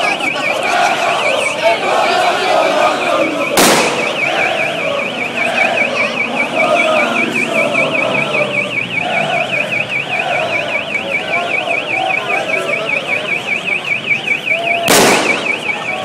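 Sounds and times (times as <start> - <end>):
crowd chanting: 0.0 - 16.0
electronic alarm warbling: 0.0 - 16.0.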